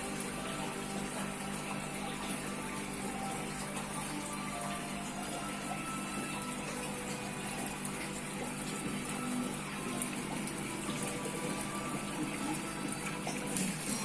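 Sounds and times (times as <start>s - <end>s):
aquarium water pump running: 0.0s - 14.0s.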